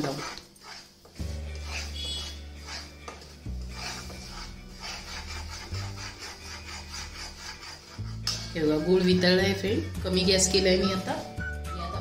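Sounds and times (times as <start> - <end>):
spatula scraping a pan: 0.0 - 9.6
background music with low notes: 0.0 - 12.0.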